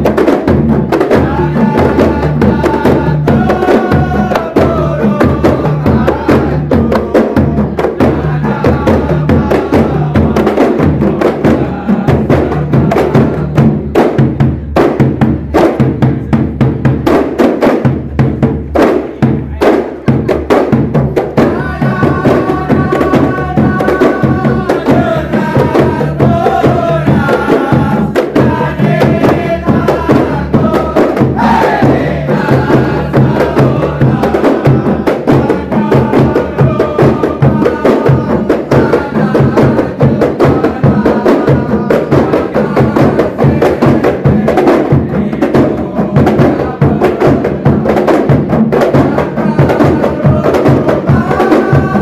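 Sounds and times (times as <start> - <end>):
men singing: 0.0 - 14.4, 21.2 - 52.0
barrel drum beat: 0.0 - 52.0
frame drums interlocking rhythm: 0.0 - 52.0.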